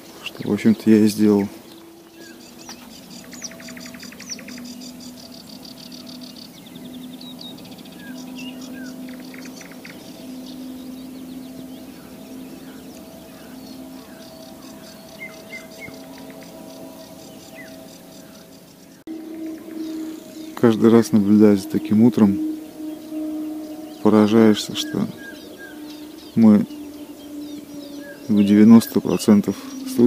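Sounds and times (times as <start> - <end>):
birds chirping: 0.0 - 30.0
low drawn-out note: 0.0 - 30.0
nightingale trilling: 0.0 - 30.0.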